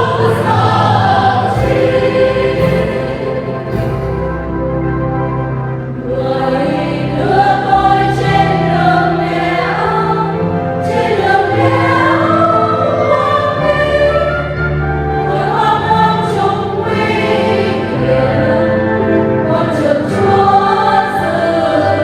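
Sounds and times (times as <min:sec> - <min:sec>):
church choir singing a hymn: 0:00.0 - 0:22.0
instrumental accompaniment: 0:00.0 - 0:22.0.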